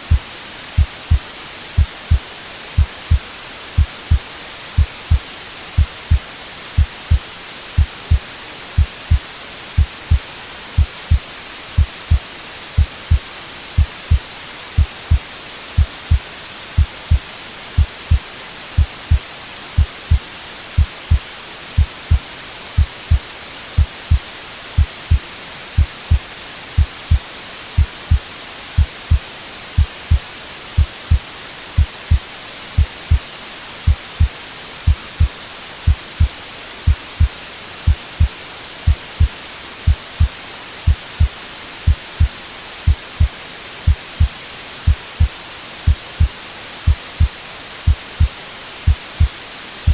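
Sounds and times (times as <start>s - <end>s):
white noise hiss: 0.0s - 49.9s.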